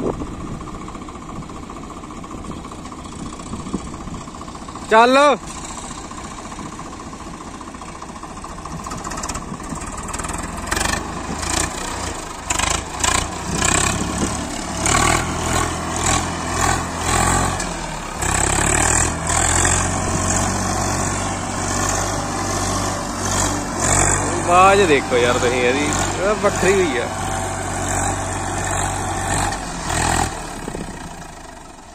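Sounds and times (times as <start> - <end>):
tractor diesel engine labouring: 0.0 - 31.9.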